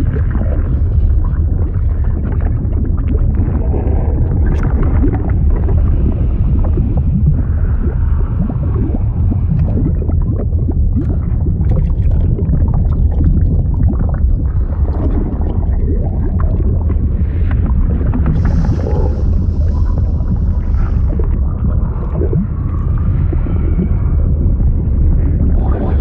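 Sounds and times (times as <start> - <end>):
bubbling pops and gurgles: 0.0 - 26.0
low churning of liquid: 0.0 - 26.0.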